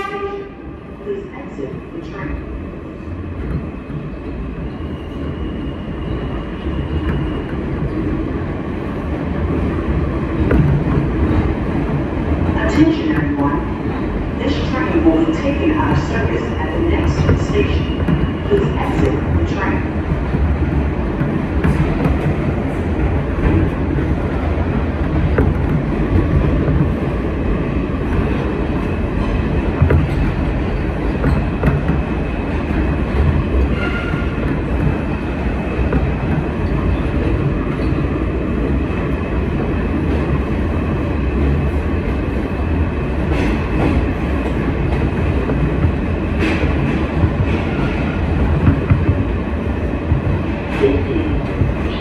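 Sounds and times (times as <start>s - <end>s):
subway train wheels on rail: 0.0s - 52.0s.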